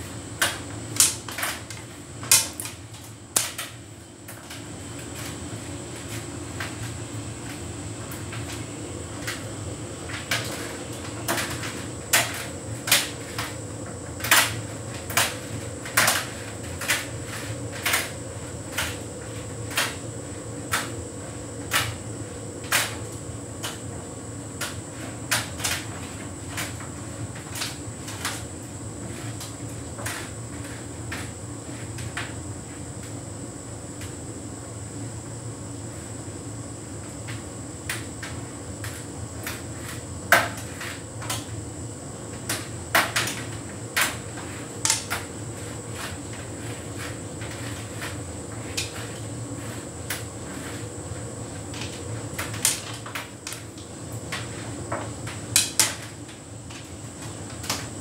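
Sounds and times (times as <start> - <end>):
tumble dryer humming: 0.0 - 58.0.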